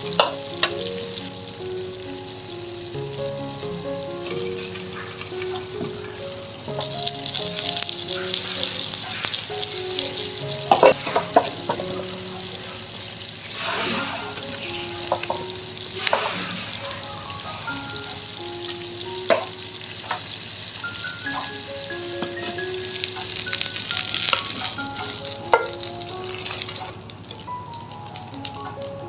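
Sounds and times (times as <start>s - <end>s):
food sizzling in frying pan: 0.0s - 29.0s
soft background music: 0.0s - 29.0s.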